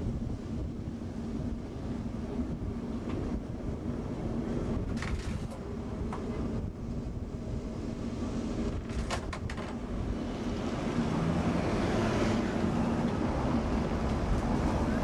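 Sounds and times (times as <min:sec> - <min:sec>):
tram rumbling on track: 0:00.0 - 0:15.0.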